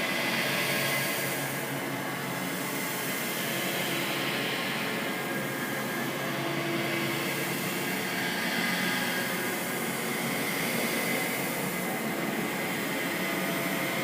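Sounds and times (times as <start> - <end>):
dark ambient drone: 0.0 - 14.0.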